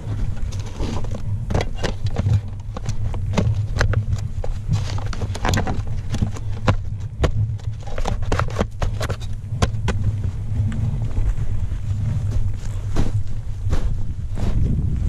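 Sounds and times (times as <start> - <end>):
snow crunching and knocking: 0.0 - 15.0.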